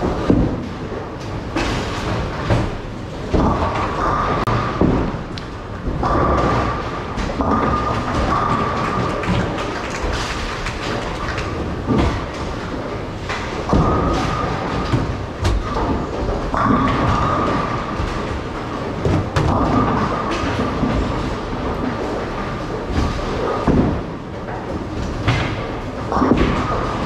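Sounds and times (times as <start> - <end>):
balls striking pins: 0.0 - 27.0
bowling balls rolling: 0.0 - 27.0.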